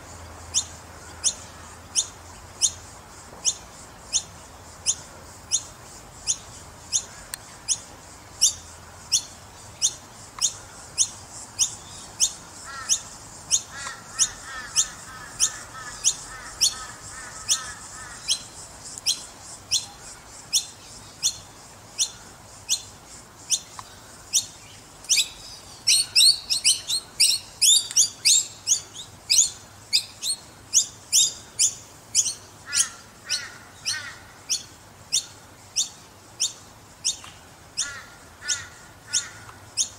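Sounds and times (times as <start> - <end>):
birds chirping high-pitched: 3.4 - 39.9.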